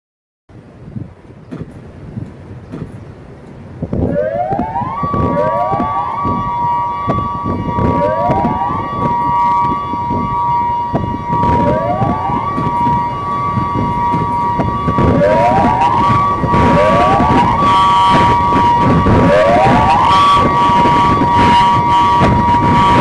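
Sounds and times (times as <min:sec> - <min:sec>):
crackly low rumble: 0:00.5 - 0:23.0
warning siren two high tones: 0:04.0 - 0:23.0.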